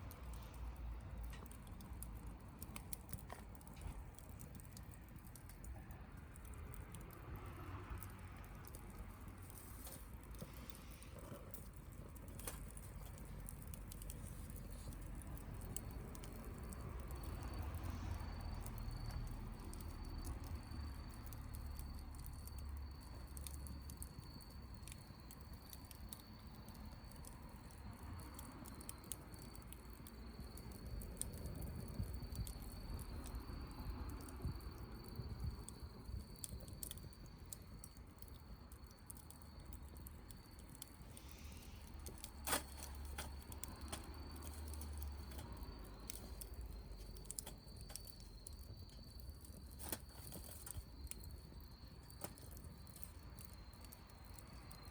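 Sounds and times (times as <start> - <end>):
bonfire crackling and popping: 0.0 - 54.9.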